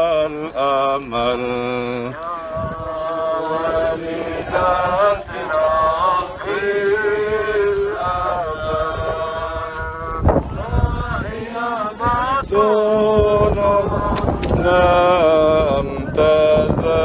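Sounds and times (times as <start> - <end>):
person singing a slow chant: 0.0 - 17.0.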